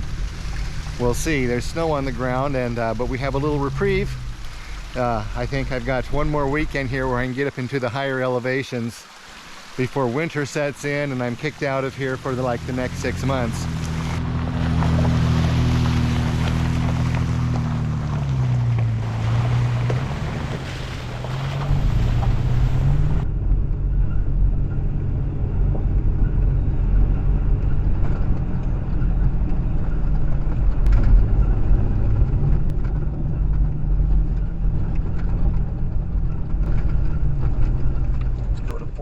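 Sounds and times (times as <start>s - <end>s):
car engine driving: 0.0s - 7.8s, 9.8s - 39.0s
deep road rumble: 0.0s - 39.0s.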